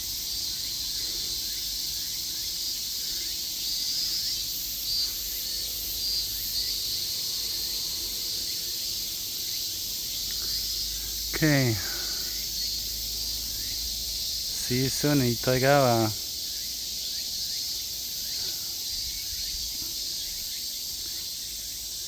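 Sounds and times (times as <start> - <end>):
cicadas buzzing: 0.0 - 22.0.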